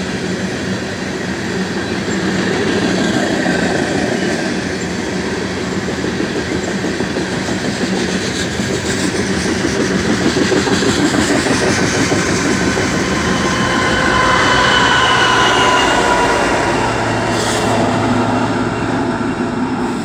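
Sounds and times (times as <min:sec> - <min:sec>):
locomotive high whine: 0:00.0 - 0:20.0
train wheels rolling on rails: 0:00.0 - 0:20.0.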